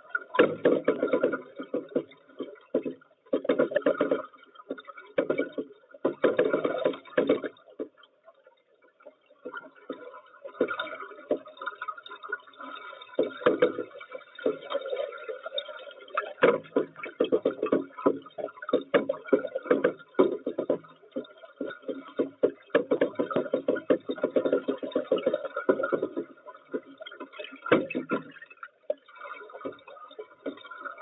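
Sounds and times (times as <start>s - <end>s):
water sloshing and gurgling: 0.0s - 31.0s.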